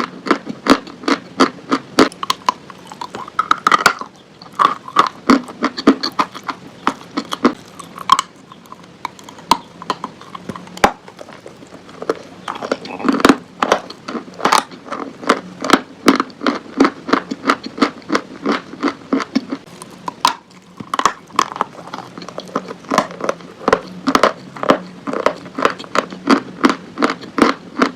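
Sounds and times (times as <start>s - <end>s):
crunching and chewing chalk: 0.0s - 27.9s.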